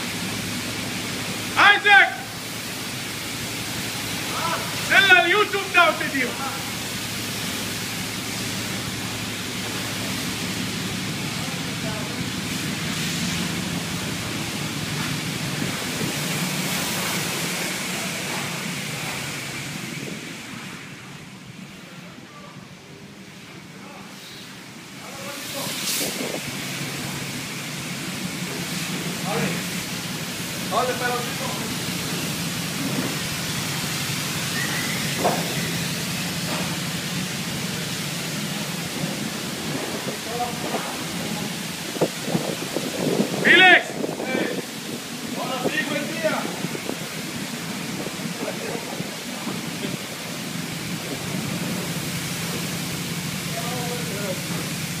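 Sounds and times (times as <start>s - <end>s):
car wash rushing noise: 0.0s - 55.0s.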